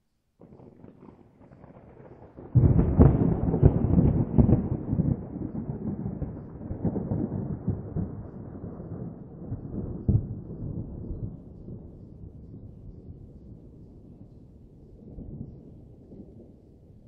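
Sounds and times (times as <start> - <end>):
distant thunder rolling: 0.4 - 17.0.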